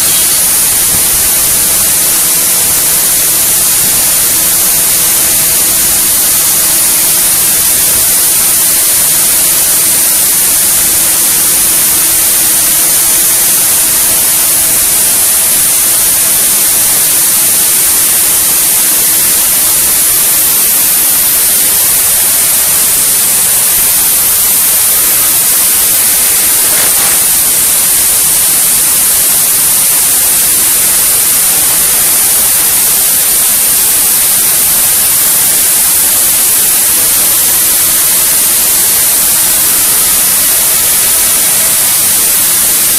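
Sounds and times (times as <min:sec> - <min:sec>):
cnc machine hissing: 0:00.0 - 0:42.9.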